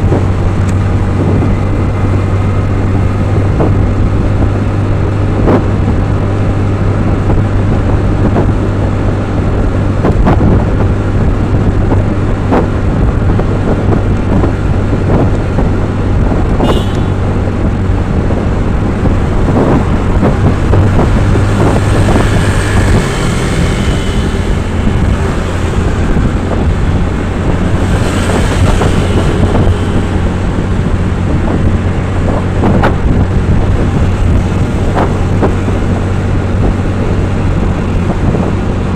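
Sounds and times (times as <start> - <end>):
vehicle engine hum: 0.0 - 38.9
wind noise on microphone: 0.0 - 38.9.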